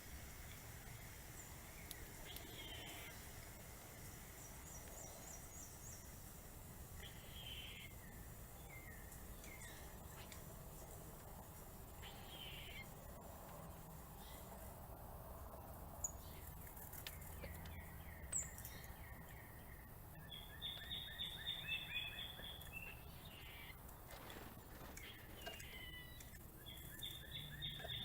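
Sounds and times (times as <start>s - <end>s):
wild birds calling: 0.0s - 10.9s, 11.8s - 13.2s, 16.0s - 28.0s
low background noise: 0.0s - 28.0s.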